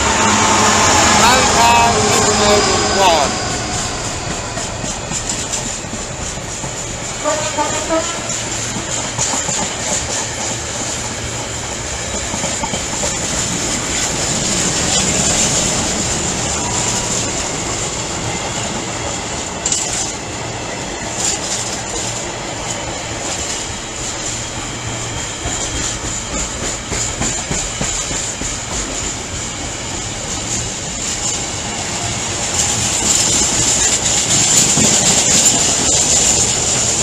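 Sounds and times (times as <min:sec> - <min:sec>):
high ringing from train wheels: 0:00.0 - 0:37.0
train running on rails: 0:00.0 - 0:37.0.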